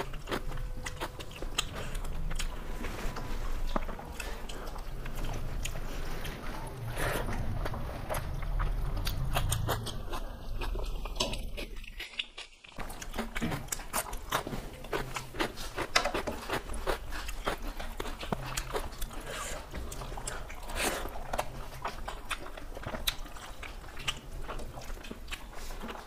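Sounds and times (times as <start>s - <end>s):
people chewing food: 0.0s - 26.0s.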